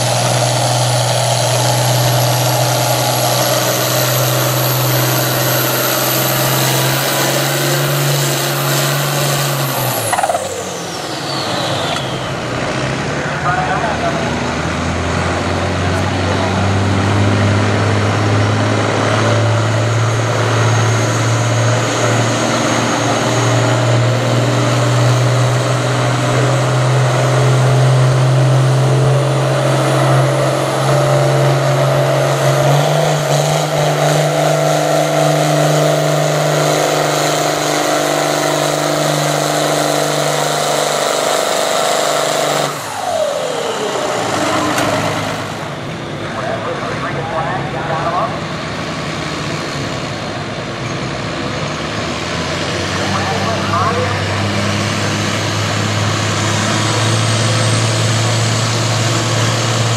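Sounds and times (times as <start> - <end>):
tractor diesel engine at full throttle: 0.0 - 59.9.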